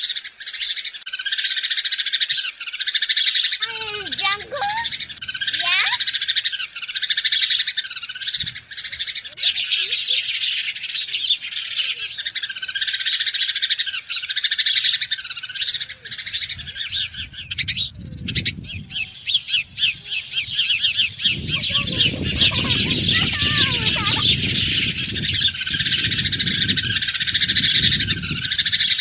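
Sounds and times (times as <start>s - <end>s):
many birds chirping: 0.0s - 29.0s.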